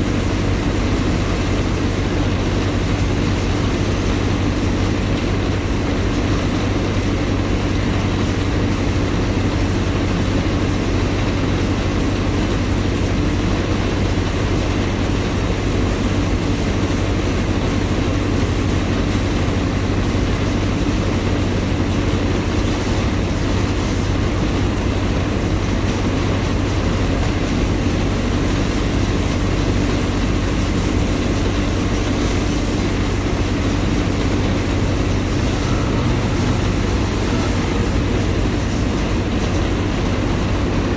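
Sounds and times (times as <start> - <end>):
diesel bus engine running: 0.0 - 40.9.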